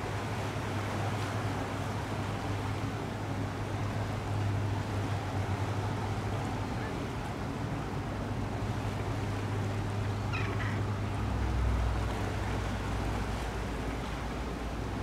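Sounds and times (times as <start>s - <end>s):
ferry engines humming: 0.0s - 15.0s
wind and sea noise: 0.0s - 15.0s.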